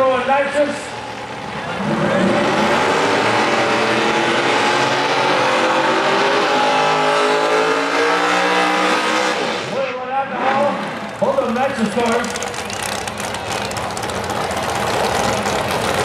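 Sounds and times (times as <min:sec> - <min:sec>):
engines revving high: 0:00.8 - 0:16.0.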